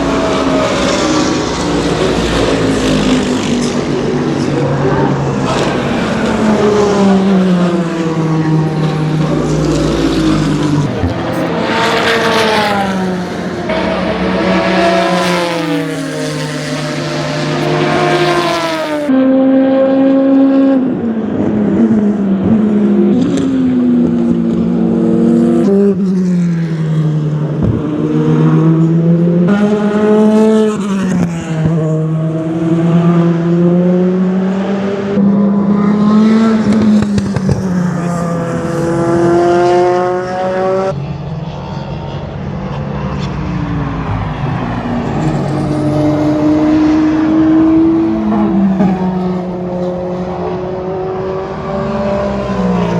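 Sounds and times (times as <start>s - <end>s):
race car engines: 0.0s - 52.9s.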